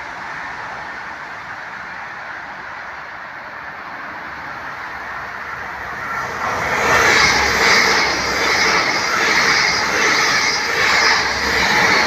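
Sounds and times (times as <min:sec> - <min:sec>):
train rushing through station: 0:00.0 - 0:12.0.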